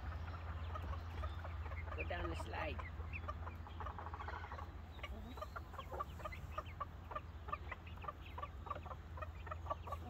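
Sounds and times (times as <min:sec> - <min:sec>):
chicks peeping: 0:00.0 - 0:10.0
low steady hum: 0:00.0 - 0:10.0.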